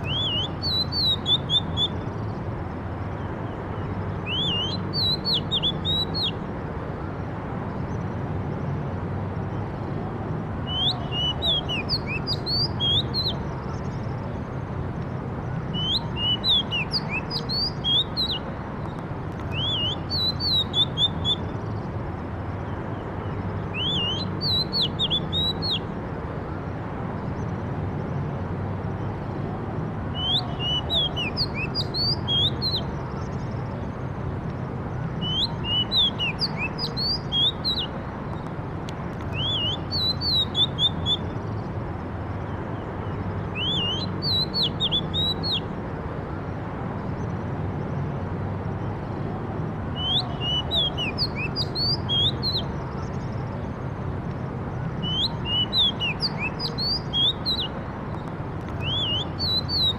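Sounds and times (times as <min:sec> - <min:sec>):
low background rush: 0:00.0 - 0:59.9
songbird singing: 0:00.0 - 0:59.9.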